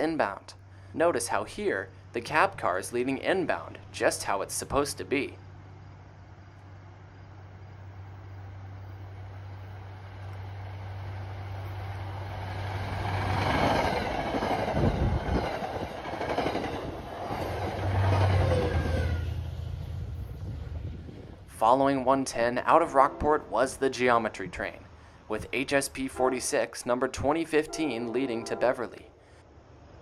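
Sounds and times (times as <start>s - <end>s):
diesel locomotive engine: 0.0s - 29.8s
train passing: 0.0s - 30.0s.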